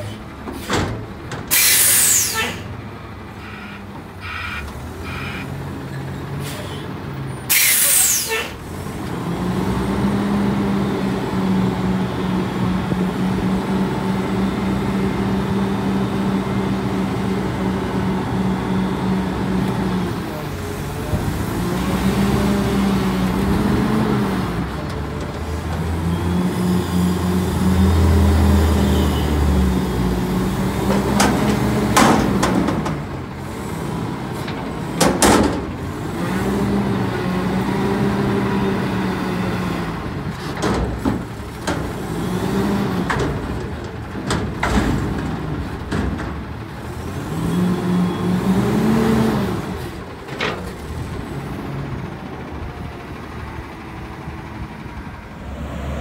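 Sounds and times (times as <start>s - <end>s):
garbage truck engine revving: 7.6s - 56.0s.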